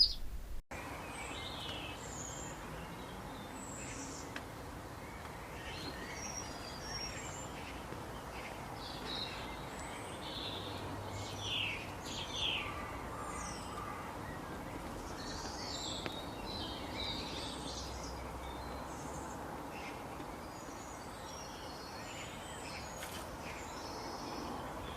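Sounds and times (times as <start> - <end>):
wild birds chirping: 0.0 - 24.9.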